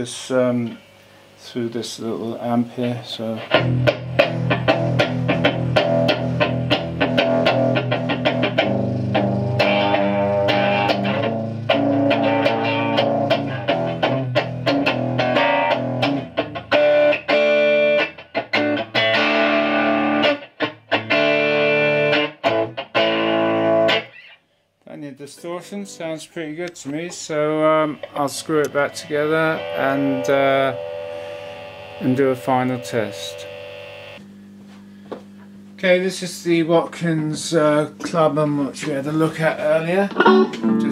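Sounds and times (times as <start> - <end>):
distorted electric guitar: 3.2 - 24.4, 25.4 - 34.2, 36.9 - 40.9.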